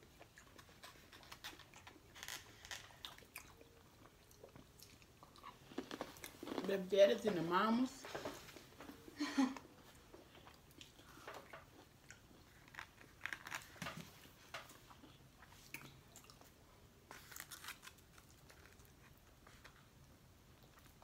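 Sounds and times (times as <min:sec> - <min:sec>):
faint chewing: 0:00.0 - 0:06.7, 0:08.0 - 0:21.0.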